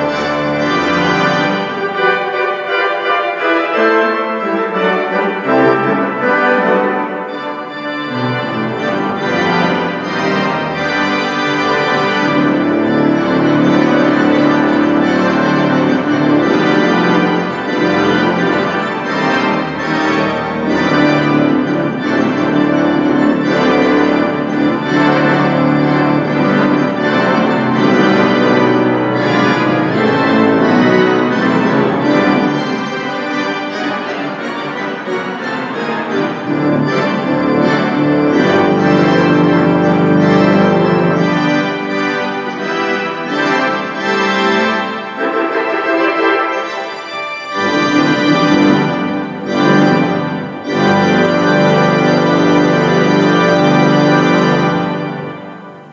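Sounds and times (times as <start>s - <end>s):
pipe organ chords: 0.0s - 55.9s
deep organ bass notes: 5.4s - 44.9s, 47.6s - 55.9s.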